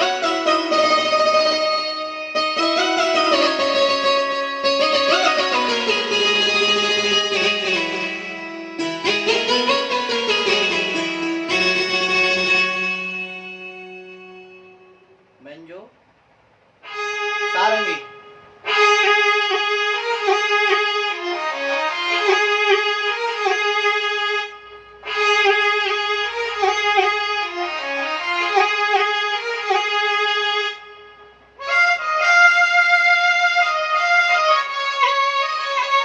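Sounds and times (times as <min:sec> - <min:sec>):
keyboard bowed-string melody: 0:00.0 - 0:15.2, 0:16.8 - 0:36.0.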